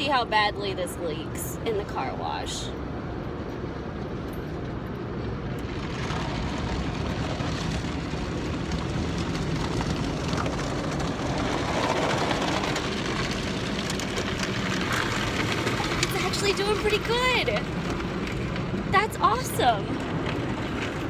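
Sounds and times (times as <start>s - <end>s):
car wash water spray and machinery: 2.8s - 21.0s.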